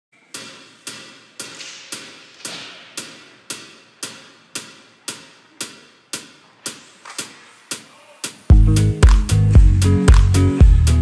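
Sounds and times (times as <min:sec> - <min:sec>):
sharp percussive beat: 0:00.4 - 0:10.9.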